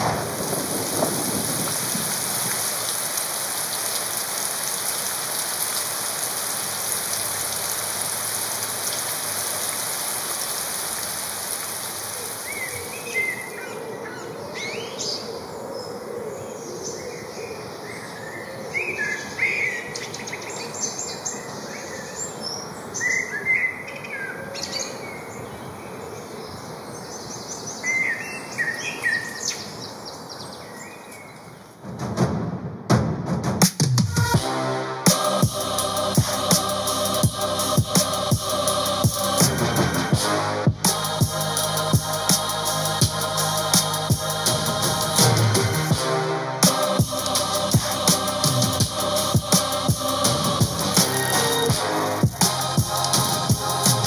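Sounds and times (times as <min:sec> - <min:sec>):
rain hiss: 0:00.0 - 0:31.8, 0:34.0 - 0:54.0.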